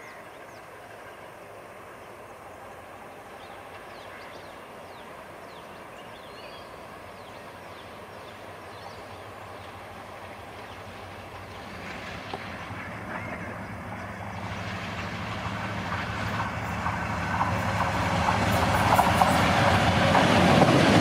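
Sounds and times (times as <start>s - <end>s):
diesel locomotive engine hum: 0.0s - 21.0s
train rumble: 0.0s - 21.0s.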